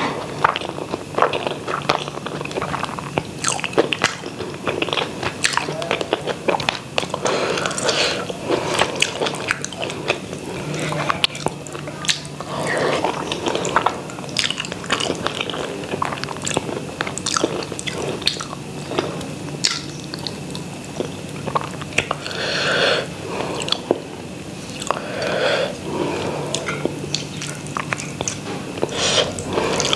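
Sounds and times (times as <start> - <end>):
chewing and biting food: 0.0 - 22.4, 24.6 - 25.3, 26.0 - 29.9
faint low hum: 0.0 - 29.9.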